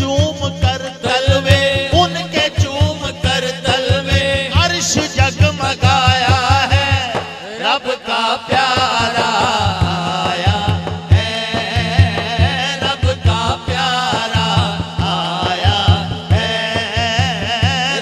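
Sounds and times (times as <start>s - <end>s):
male voices singing: 0.0s - 18.0s.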